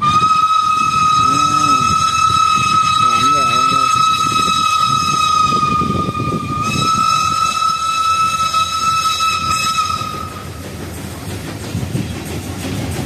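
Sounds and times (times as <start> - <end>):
steam locomotive whistle: 0.0 - 10.6
train rumbling: 0.0 - 13.0.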